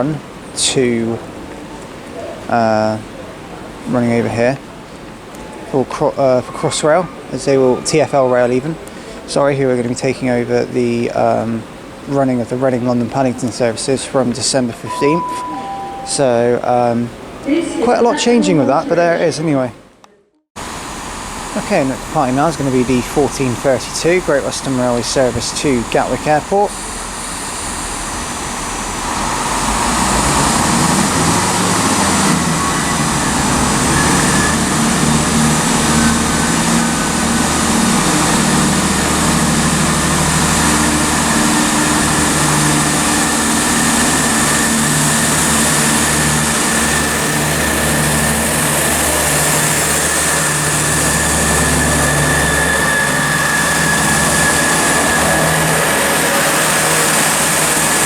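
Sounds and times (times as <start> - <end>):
train diesel engine drone: 0.0 - 19.9, 20.6 - 58.0.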